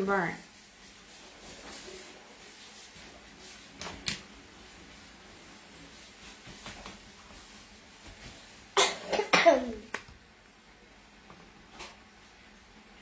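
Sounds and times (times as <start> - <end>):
paper towel rustling: 0.0 - 12.7.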